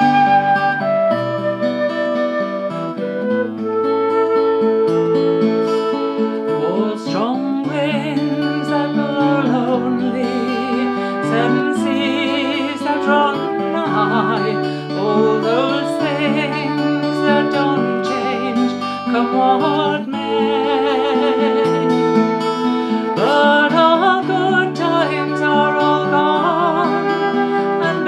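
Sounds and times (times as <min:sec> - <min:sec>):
woman singing: 0:00.0 - 0:01.4, 0:05.2 - 0:28.0
acoustic guitar strumming: 0:00.0 - 0:28.0
flute playing: 0:00.0 - 0:28.0.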